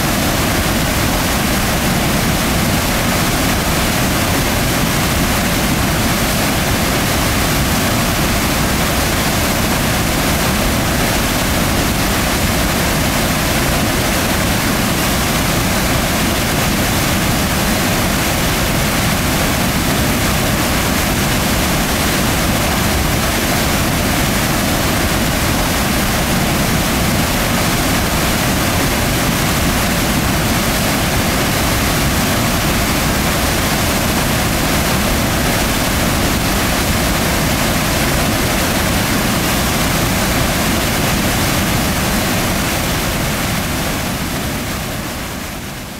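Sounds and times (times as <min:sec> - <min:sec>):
white water rushing: 0:00.0 - 0:45.9.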